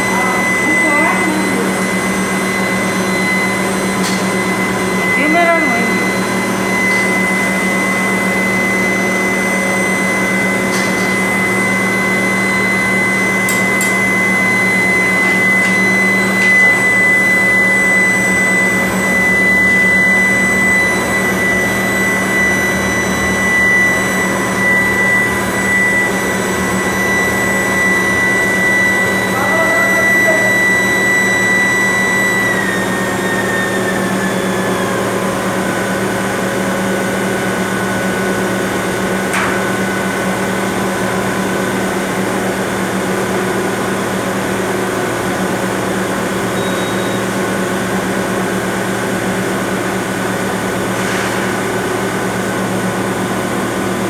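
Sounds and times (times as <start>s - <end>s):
furnace high-pitched whine: 0.0s - 54.0s.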